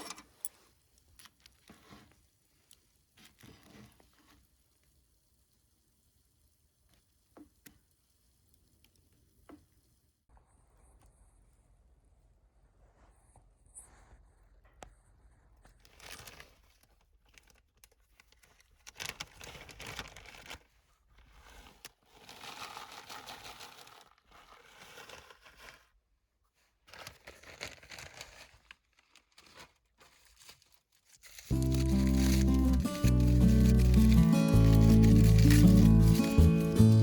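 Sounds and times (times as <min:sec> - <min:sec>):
crinkling and rustling handling noise: 0:00.0 - 0:09.9, 0:14.0 - 0:37.0.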